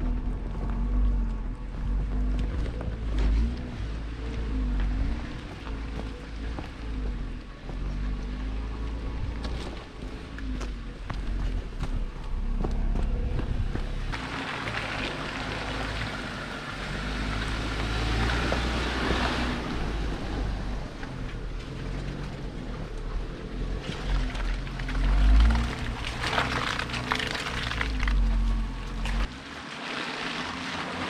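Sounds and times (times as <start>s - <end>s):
car engine at low speed: 0.0s - 31.0s
tyres crunching over rough ground: 0.0s - 31.0s.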